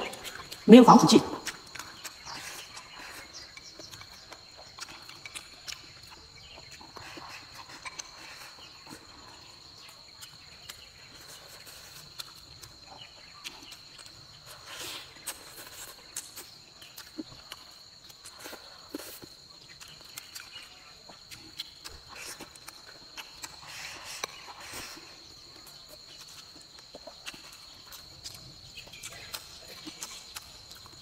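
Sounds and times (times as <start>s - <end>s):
person chewing: 0.0s - 0.7s, 1.3s - 9.1s, 10.2s - 12.8s, 13.4s - 31.0s
high insect call: 0.0s - 31.0s.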